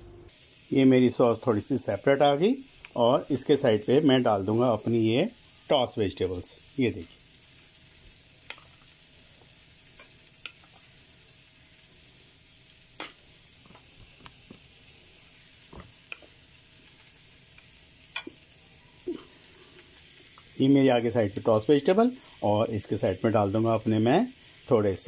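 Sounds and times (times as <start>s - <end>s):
faint high hiss: 0.0s - 25.0s.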